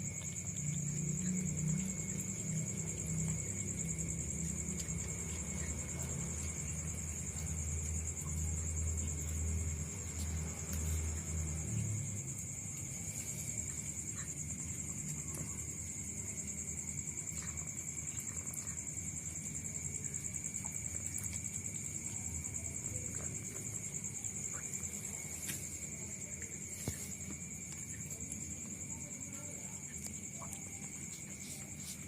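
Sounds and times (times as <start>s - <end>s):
insect chorus trilling: 0.0s - 32.0s.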